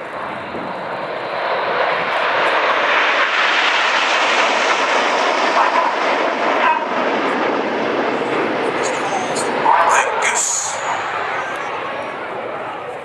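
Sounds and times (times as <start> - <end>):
jets flying past: 0.0 - 13.0.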